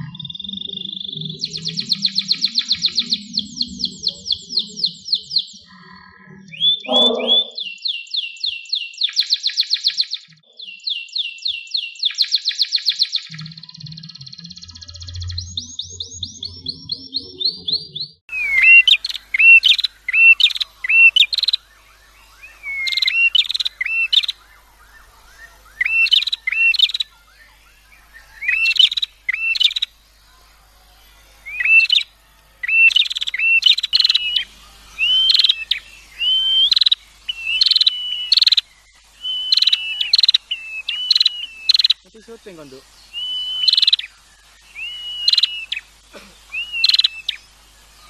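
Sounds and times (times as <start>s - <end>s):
songbird singing whistled notes: 0.0s - 30.4s, 31.4s - 48.0s.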